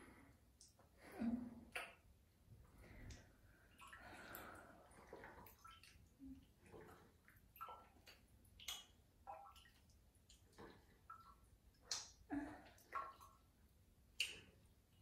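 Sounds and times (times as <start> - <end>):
bath water splashing and dripping: 0.6 - 15.0.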